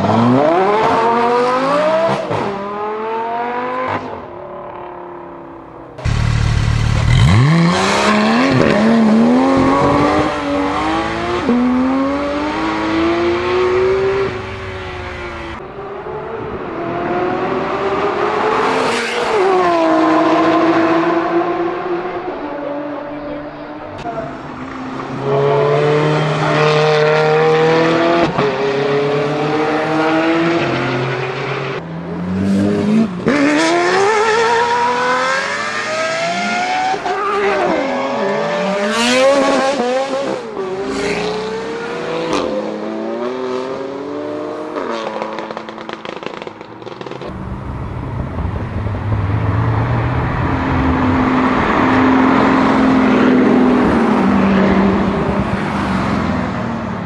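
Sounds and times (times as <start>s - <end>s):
sports car engines revving: 0.0s - 57.0s.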